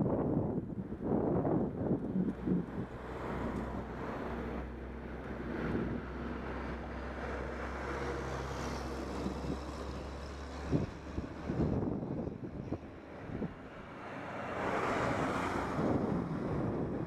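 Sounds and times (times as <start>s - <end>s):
tyre and air noise: 0.0s - 17.0s
vehicle engine drone: 0.0s - 17.0s
wind on microphone: 0.0s - 17.0s.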